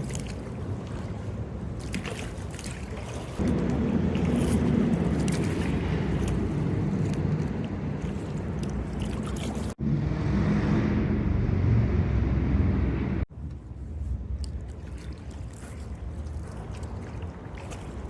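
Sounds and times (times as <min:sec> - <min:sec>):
paddle splashes and drips: 0:00.0 - 0:09.8, 0:13.3 - 0:18.0
steady low rumble: 0:00.0 - 0:18.0.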